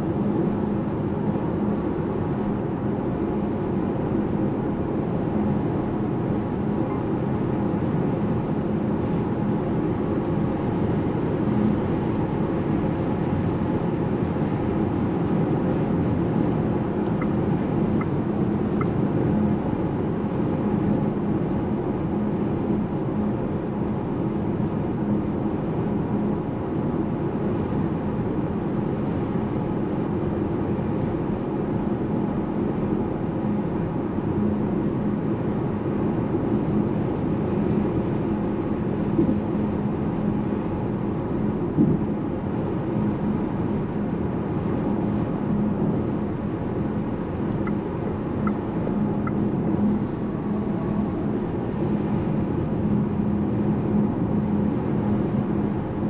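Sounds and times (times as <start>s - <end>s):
low steady hum: 0.0s - 56.0s
road and tyre noise: 0.1s - 23.8s, 33.4s - 56.0s.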